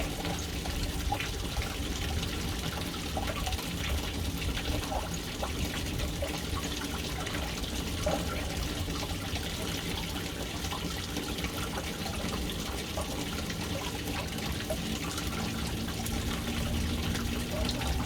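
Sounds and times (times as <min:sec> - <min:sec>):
water trickling into tank: 0:00.0 - 0:18.0.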